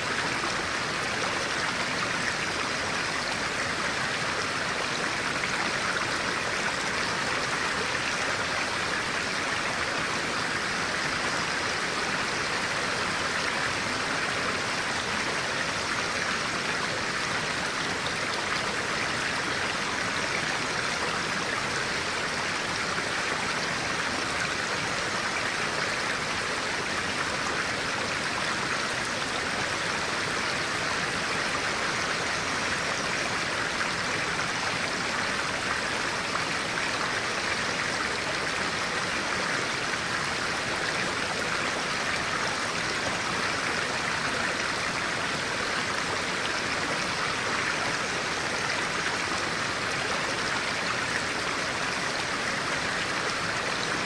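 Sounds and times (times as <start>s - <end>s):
stream flowing over rocks: 0.0s - 54.0s.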